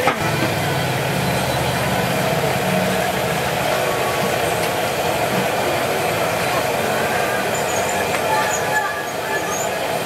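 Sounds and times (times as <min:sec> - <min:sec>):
low engine-like drone: 0:00.0 - 0:10.0.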